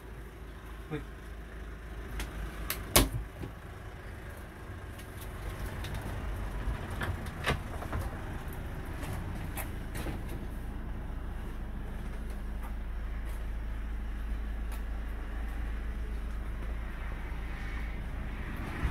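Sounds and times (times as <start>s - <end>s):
low steady rumble: 0.0s - 18.9s.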